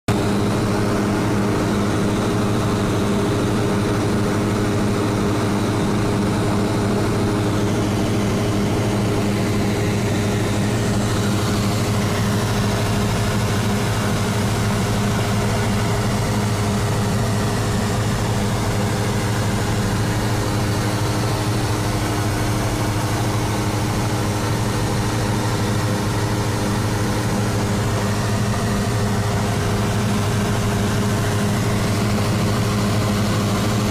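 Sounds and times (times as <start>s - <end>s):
propeller plane engine droning: 0.1s - 33.9s.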